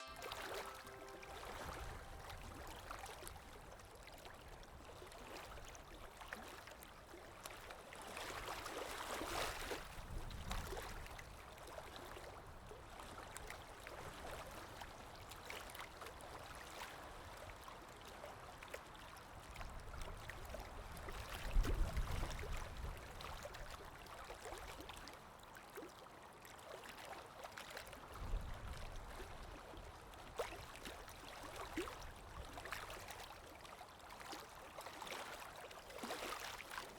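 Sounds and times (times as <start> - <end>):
river water rippling and lapping: 0.0 - 36.9.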